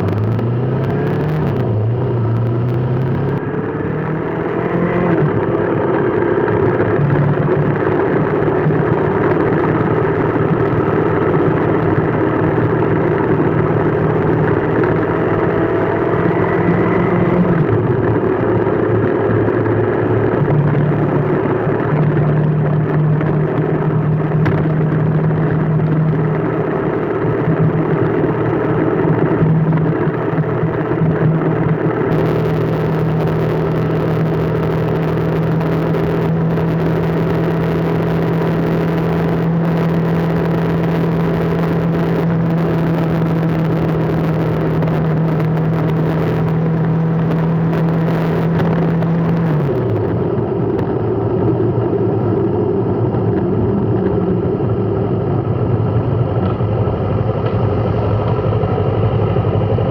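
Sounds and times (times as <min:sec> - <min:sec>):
road noise hiss: 0:00.0 - 0:59.8
vehicle engine running: 0:00.0 - 0:59.9.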